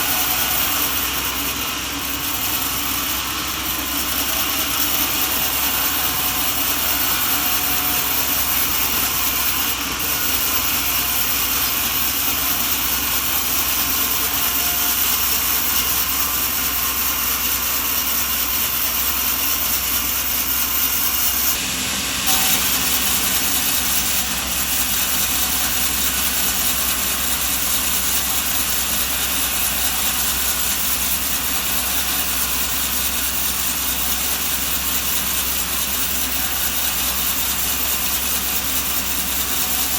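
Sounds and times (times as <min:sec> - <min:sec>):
machinery droning: 0:00.0 - 0:39.9.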